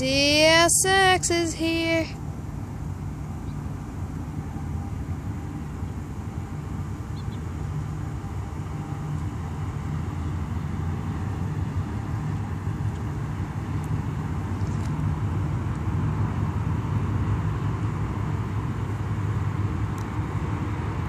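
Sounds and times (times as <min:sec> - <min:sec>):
diesel locomotive drone: 0:00.0 - 0:21.0.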